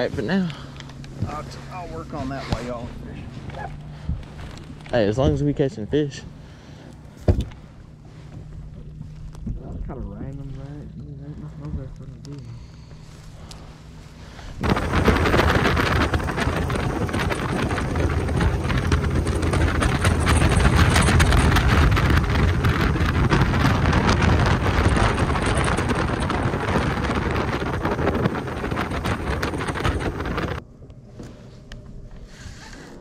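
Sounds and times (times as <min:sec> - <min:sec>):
wind buffeting microphone: 0:00.0 - 0:30.7
boat motor running: 0:00.0 - 0:33.0.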